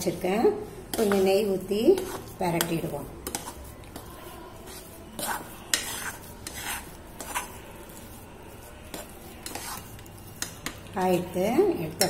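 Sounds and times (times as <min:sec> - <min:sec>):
metal spatula scraping pan: 0:00.1 - 0:12.0.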